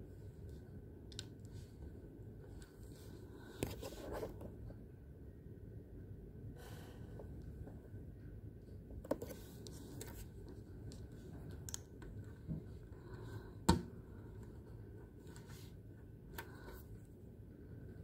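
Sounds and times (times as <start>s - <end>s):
faint steady whine: 0.0s - 18.0s.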